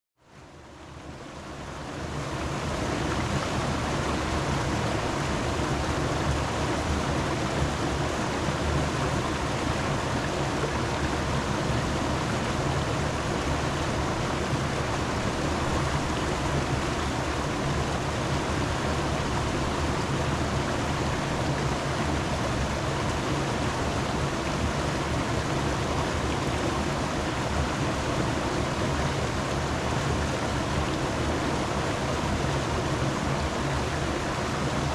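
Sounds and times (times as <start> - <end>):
running water rushing: 0.3 - 34.9.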